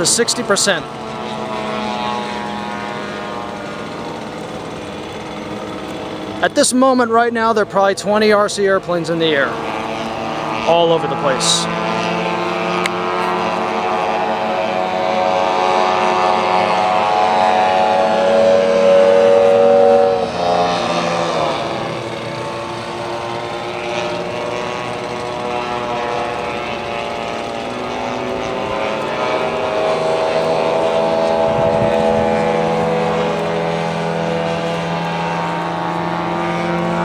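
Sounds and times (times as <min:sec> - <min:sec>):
model plane engine drone: 0:00.0 - 0:37.0.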